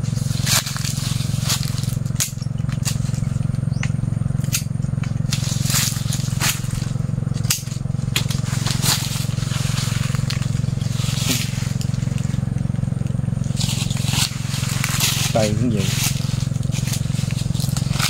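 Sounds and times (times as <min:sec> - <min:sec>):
leaves rustling: 0:00.0 - 0:18.0
steady low hum: 0:00.0 - 0:18.0
pruning cutter cracking branches: 0:00.2 - 0:18.0.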